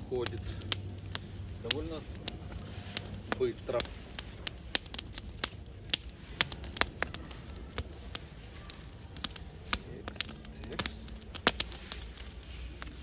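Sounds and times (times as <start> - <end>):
campfire crackling and popping: 0.0 - 13.0
low fire hiss: 0.0 - 13.0.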